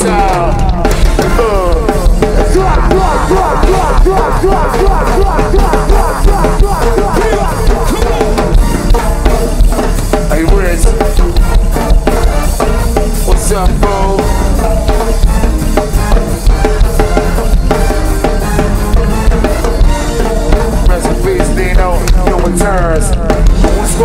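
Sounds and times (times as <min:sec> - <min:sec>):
music with drum-kit beat: 0:00.0 - 0:24.0.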